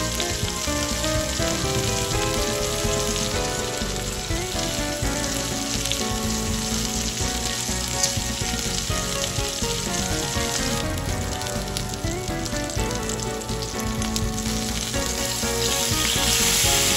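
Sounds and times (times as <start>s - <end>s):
steak sizzling on grill pan: 0.0s - 16.9s.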